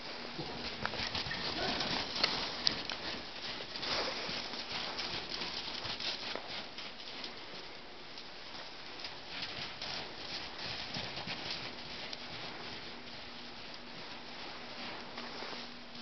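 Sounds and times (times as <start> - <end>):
hooves stepping and scuffing: 0.0 - 16.0.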